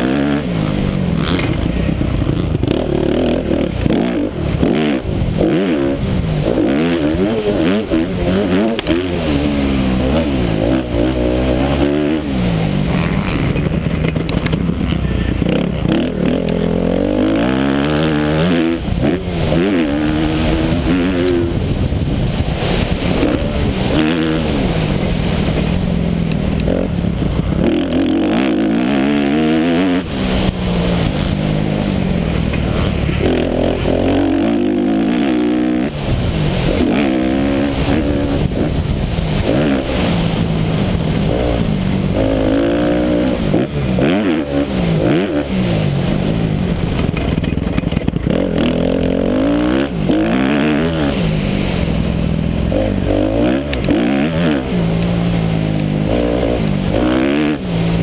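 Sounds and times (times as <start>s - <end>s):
motocross bike engine racing: 0.0s - 58.0s
wind noise on microphone: 0.0s - 58.0s.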